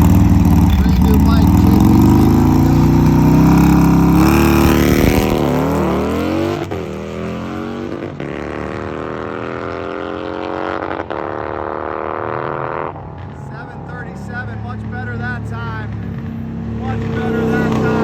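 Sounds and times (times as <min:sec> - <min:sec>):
drag bike engine revving: 0:00.0 - 0:13.1, 0:14.1 - 0:18.0.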